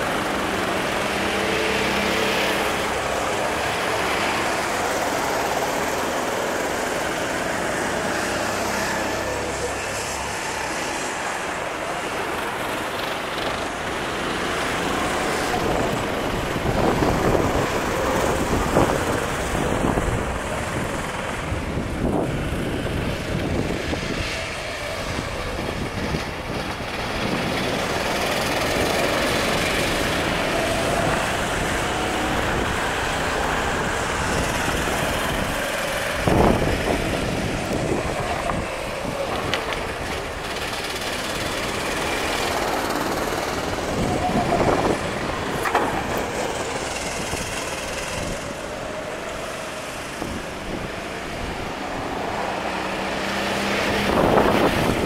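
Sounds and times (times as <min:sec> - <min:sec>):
kart engines running: 0:00.0 - 0:55.0.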